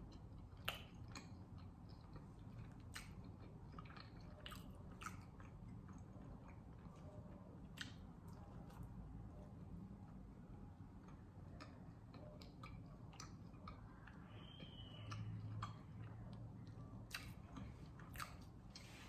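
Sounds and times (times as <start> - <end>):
faint chewing: 0.0 - 19.0.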